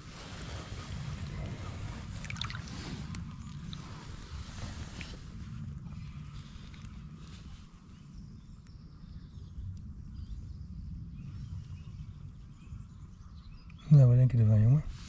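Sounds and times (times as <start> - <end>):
wind on microphone: 0.0 - 13.8.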